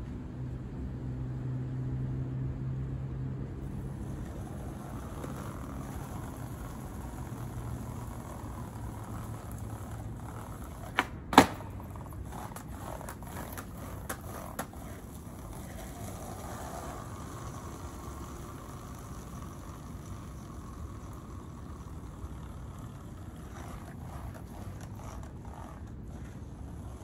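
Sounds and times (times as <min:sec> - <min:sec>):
skateboard clacking on pavement: 0:03.6 - 0:27.0.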